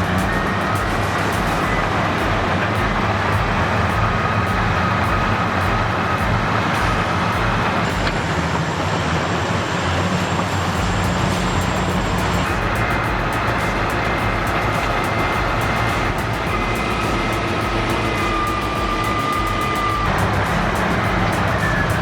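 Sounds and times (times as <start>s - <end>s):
diesel engines running under load: 0.0s - 22.0s.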